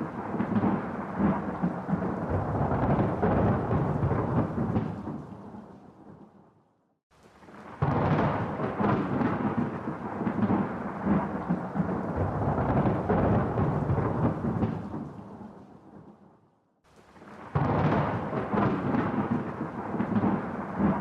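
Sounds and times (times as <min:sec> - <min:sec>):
thunder rumbling: 0:00.0 - 0:06.4, 0:07.4 - 0:16.2, 0:17.1 - 0:21.0.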